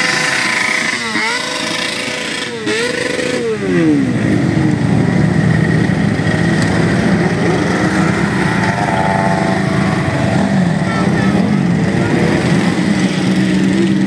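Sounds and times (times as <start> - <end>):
motorcycles riding past: 0.0 - 14.0.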